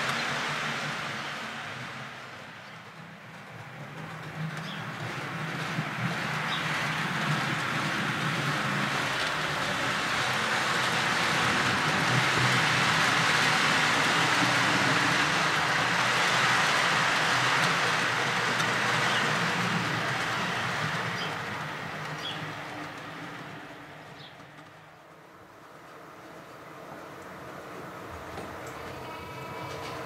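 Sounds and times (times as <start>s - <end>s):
model train wheels rolling: 0.0s - 30.0s.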